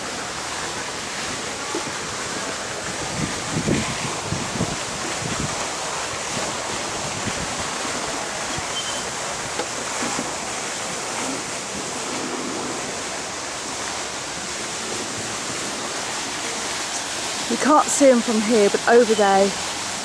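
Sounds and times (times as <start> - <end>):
fountain water falling: 0.0 - 20.0.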